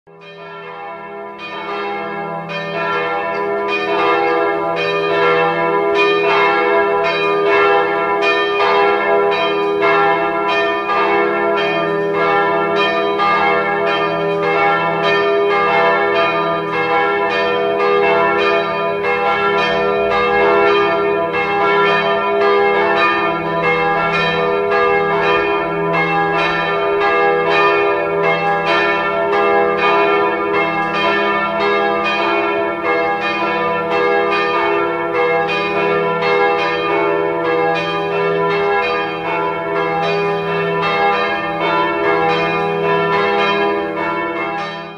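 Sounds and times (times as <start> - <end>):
church bells pealing: 0.1 - 44.9.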